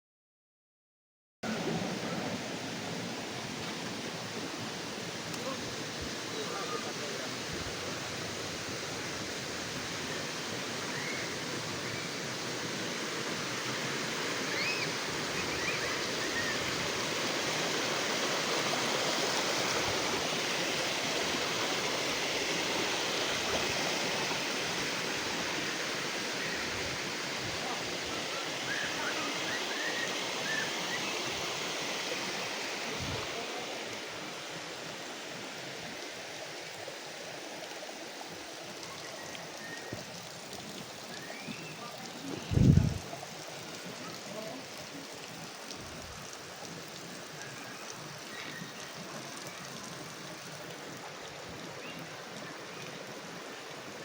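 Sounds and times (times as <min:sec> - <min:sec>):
river water rushing: 0:01.5 - 0:54.0.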